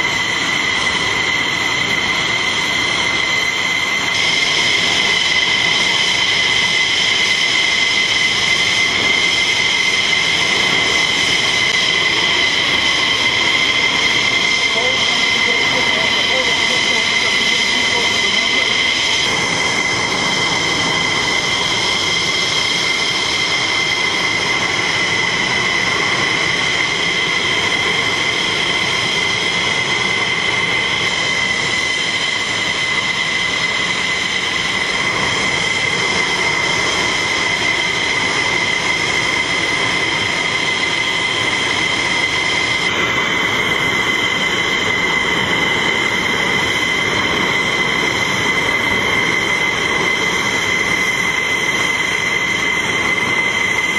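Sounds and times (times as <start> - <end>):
jet engines idling: 0.0 - 53.9.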